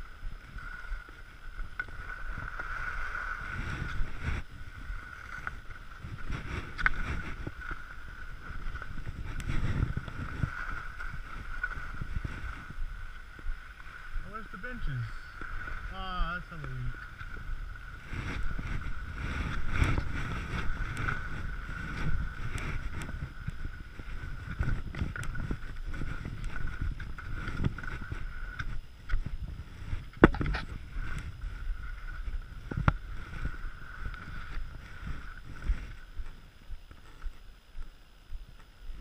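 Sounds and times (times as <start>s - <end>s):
wind buffeting microphone: 0.0s - 37.4s
skis scraping over snow: 0.0s - 38.1s.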